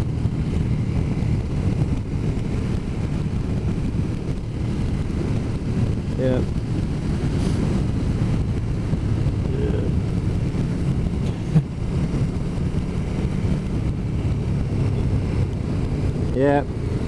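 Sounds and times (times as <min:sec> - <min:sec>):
motorcycle engine droning: 0:00.0 - 0:17.0
road noise: 0:00.0 - 0:17.0.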